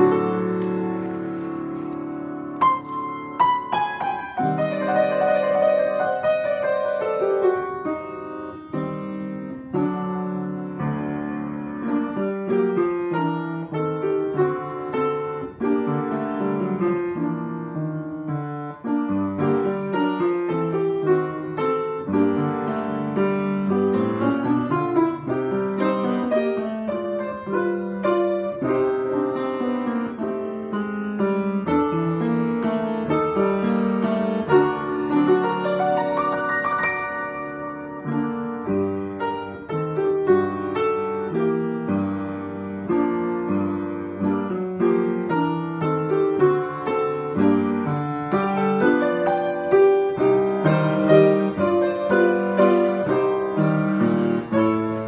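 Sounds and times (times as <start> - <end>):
solo piano: 0.0 - 55.0.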